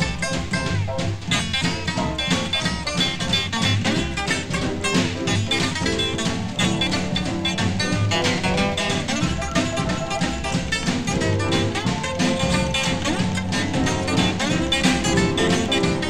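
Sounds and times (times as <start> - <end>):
guitar-led swing music: 0.0 - 16.0.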